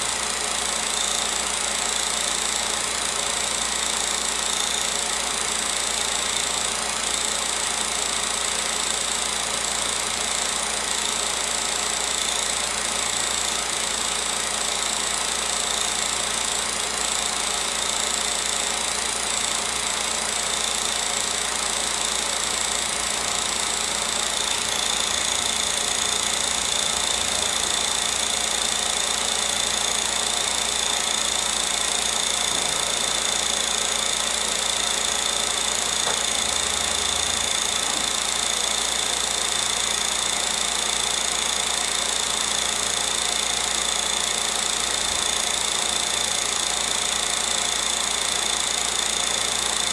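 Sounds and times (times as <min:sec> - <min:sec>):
film projector whirring: 0:00.0 - 0:49.9.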